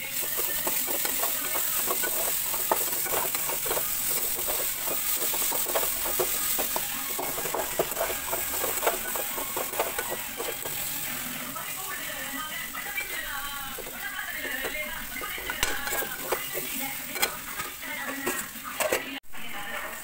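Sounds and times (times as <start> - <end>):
food sizzling: 0.0 - 20.0
metal spatula scraping a pan: 0.1 - 11.5, 12.8 - 20.0.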